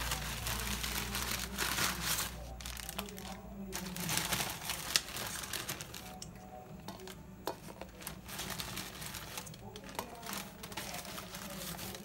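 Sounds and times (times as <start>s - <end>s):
food packaging crinkling: 0.0s - 12.0s.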